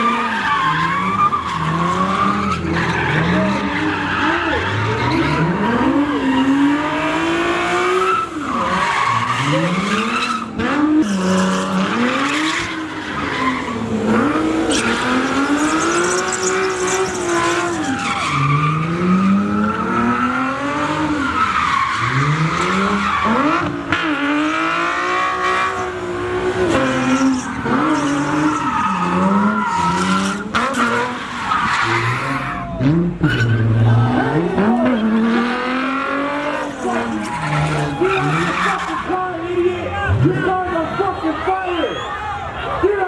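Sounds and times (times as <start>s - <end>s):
car engine revving: 0.0s - 39.4s
tires squealing: 0.0s - 43.0s.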